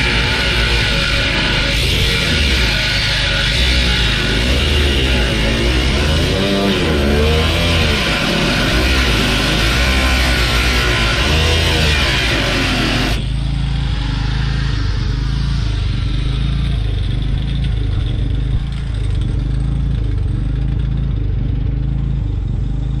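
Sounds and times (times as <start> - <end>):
heavy rock music: 0.0 - 19.2
vehicle engine running: 0.0 - 23.0.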